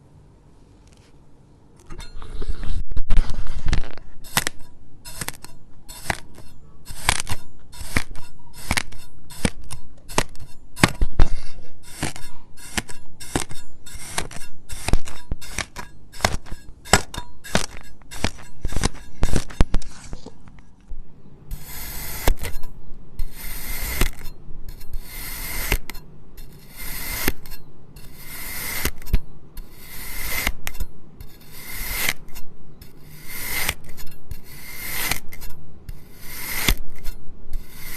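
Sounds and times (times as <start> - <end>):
scraping strokes in sand: 2.1 - 16.7, 17.4 - 20.3, 24.8 - 37.9
kinetic sand crunching cuts: 3.2 - 20.3, 21.5 - 22.6, 23.2 - 37.9.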